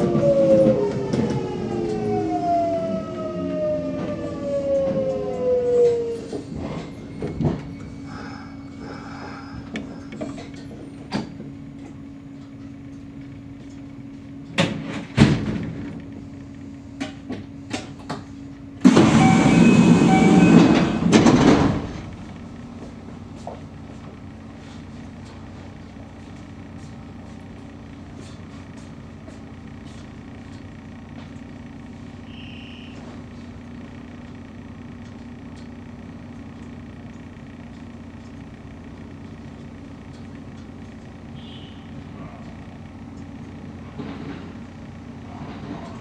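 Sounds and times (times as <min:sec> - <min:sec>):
train electrical hum: 0:00.0 - 0:46.0.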